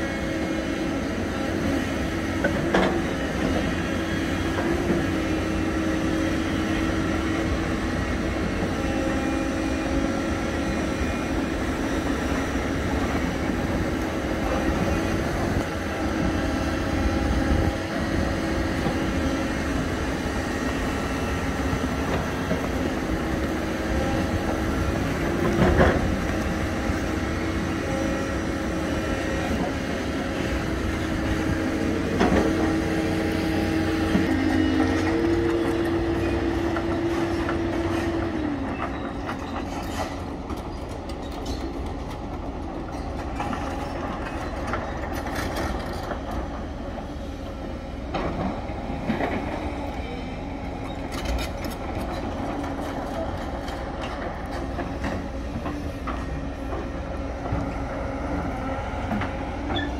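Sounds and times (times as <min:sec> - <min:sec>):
excavator engine and hydraulics whine: 0:00.0 - 0:59.9.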